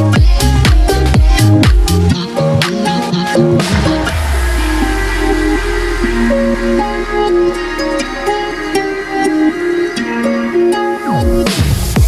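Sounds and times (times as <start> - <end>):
electronic music with synth melody: 0.0 - 12.0.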